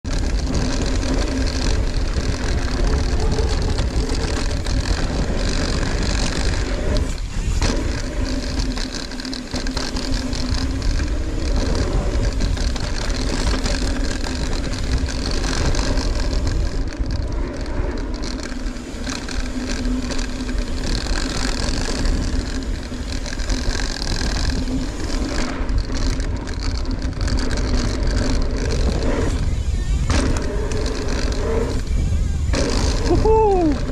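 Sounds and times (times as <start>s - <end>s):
bicycle tyre noise on dirt: 0.0s - 33.9s
bike rattling over ground: 0.0s - 33.9s.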